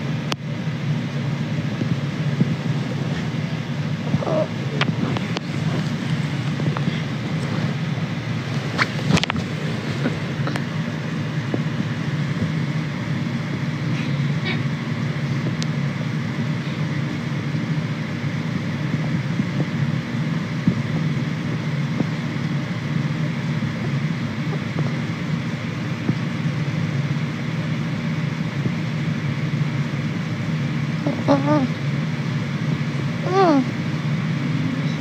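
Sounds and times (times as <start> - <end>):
vehicle cabin rumble and hiss: 0.0 - 35.0.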